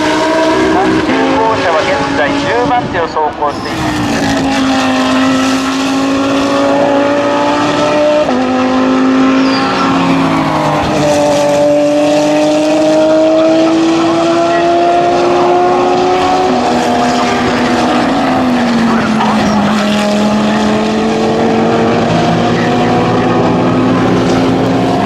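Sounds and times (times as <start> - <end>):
race car engines accelerating: 0.0 - 25.0.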